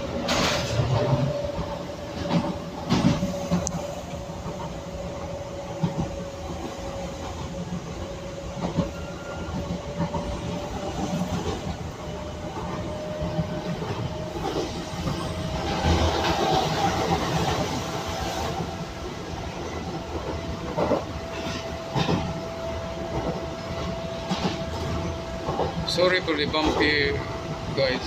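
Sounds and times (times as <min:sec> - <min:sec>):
electric train whine: 0:00.0 - 0:28.0.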